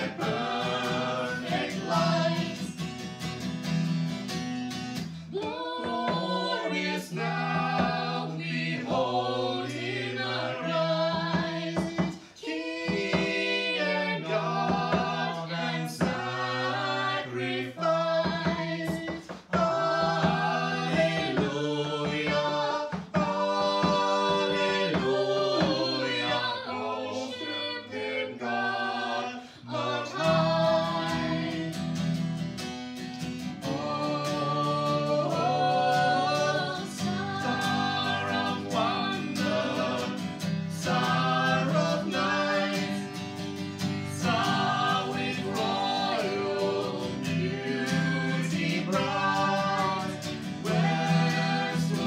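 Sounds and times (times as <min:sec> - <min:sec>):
people singing carol in harmony: 0:00.0 - 0:03.0, 0:05.2 - 0:32.2, 0:33.0 - 0:52.0
strummed acoustic guitar: 0:00.0 - 0:52.0.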